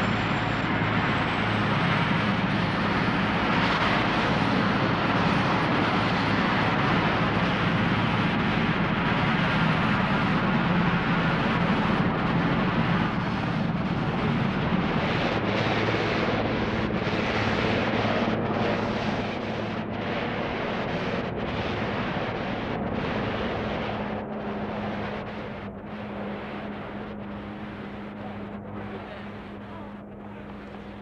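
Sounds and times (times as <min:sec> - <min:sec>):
aircraft engines running: 0:00.0 - 0:31.0.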